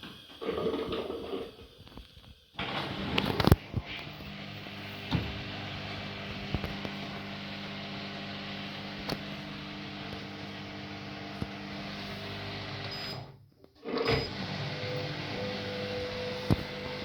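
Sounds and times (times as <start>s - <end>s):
washing machine motor hum: 2.6s - 17.0s.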